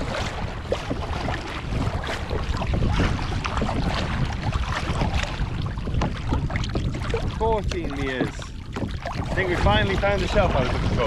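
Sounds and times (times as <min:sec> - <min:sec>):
paddle strokes splashing: 0:00.0 - 0:11.0
water lapping at hull: 0:00.0 - 0:11.0
wind rumble on microphone: 0:00.0 - 0:11.0.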